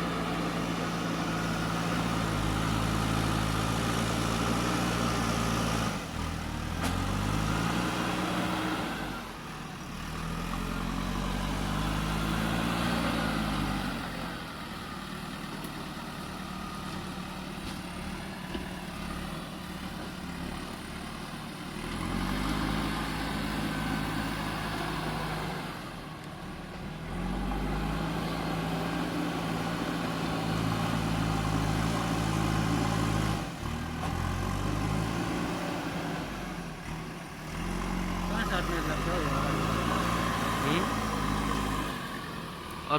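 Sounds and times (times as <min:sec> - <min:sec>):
diesel engine revving: 0:00.0 - 0:42.9.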